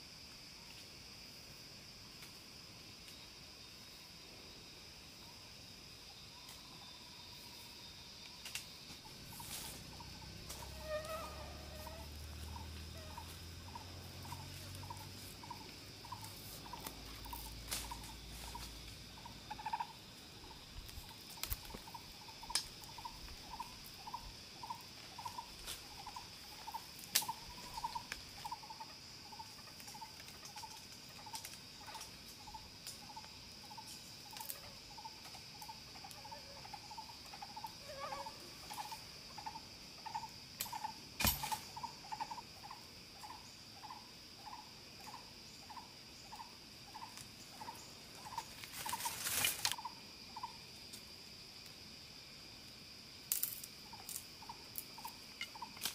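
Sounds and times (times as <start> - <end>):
high insect hum: 0.0 - 55.9.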